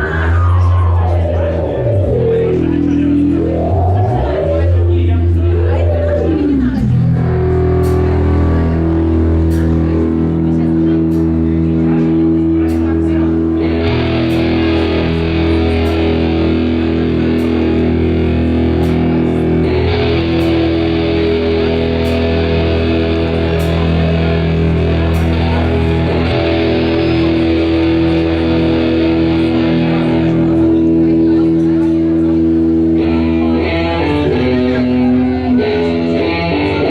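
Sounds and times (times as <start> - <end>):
rock music with electric guitar: 0.0 - 36.9
steady low drone: 0.0 - 36.9.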